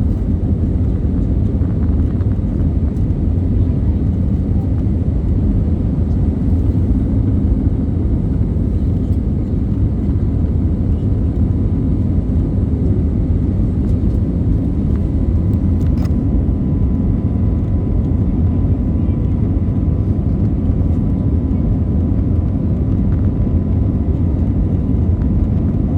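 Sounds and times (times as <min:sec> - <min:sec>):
airliner cabin engine rumble: 0:00.0 - 0:25.9.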